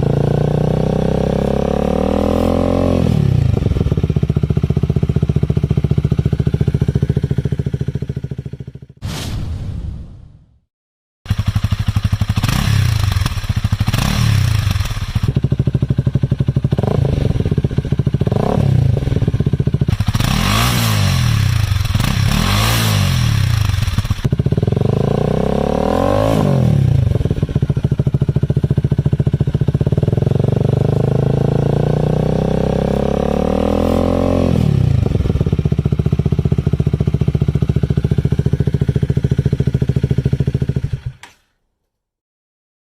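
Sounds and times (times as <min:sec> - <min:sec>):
motorcycle engine idling and revving: 0:00.0 - 0:09.0, 0:11.3 - 0:41.5.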